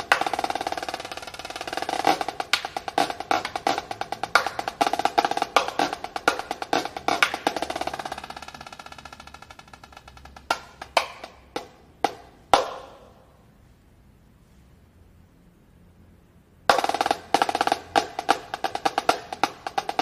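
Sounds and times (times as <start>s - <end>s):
snare drum strokes and roll: 0.0s - 13.2s, 16.7s - 20.0s.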